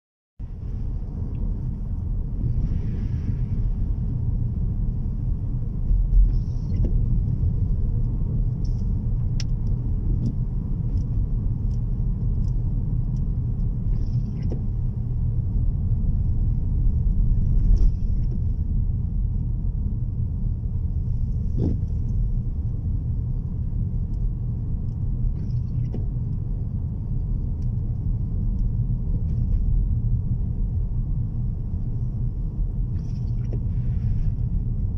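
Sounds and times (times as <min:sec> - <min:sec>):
car rumble from inside cabin: 0:00.4 - 0:34.9.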